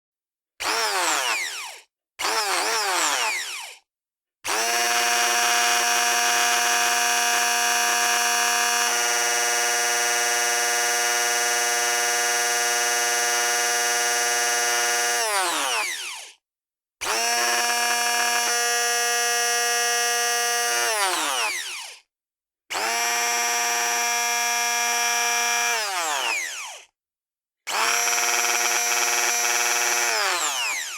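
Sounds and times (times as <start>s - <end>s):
hand blender motor whining: 0.6s - 3.8s, 4.5s - 16.4s, 17.0s - 22.0s, 22.7s - 26.9s, 27.7s - 30.9s.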